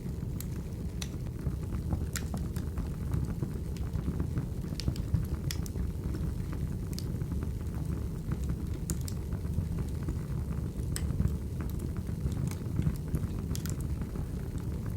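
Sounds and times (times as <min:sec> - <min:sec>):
low rumble of flames: 0:00.0 - 0:14.9
burning logs crackling and popping: 0:00.2 - 0:14.9.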